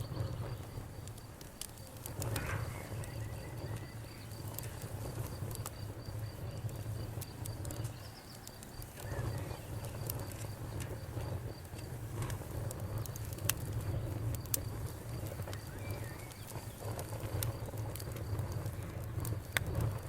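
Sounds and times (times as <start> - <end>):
campfire rumble: 0.0 - 20.0
wood crackling and popping: 0.0 - 20.0.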